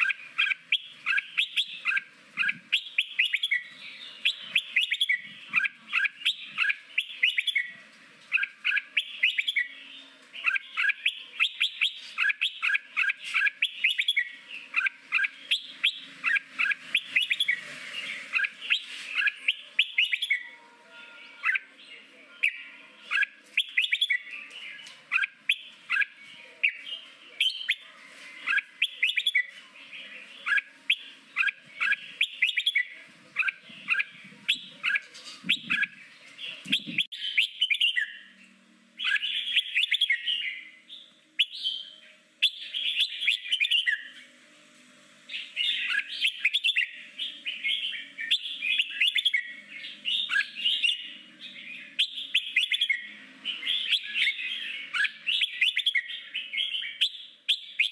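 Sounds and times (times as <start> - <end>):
bird singing whistled notes: 0.0 - 7.7, 8.3 - 27.8, 28.4 - 38.3, 39.0 - 44.2, 45.4 - 57.9.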